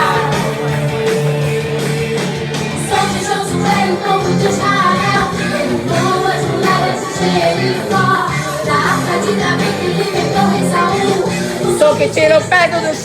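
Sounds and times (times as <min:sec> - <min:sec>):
people singing: 0:00.0 - 0:12.9
bass line: 0:00.0 - 0:13.0
live band playing praise song: 0:00.0 - 0:13.0.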